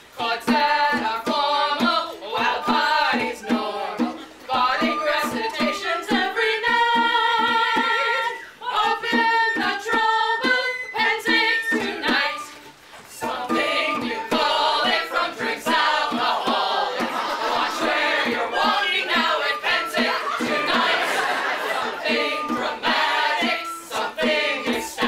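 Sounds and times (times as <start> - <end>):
mixed group singing unaccompanied: 0.1 - 25.0.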